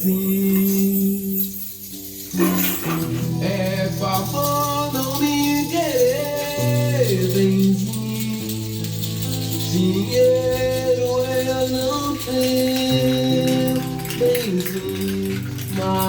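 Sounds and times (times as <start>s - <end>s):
shaker rattling in rhythm: 0.0s - 16.0s.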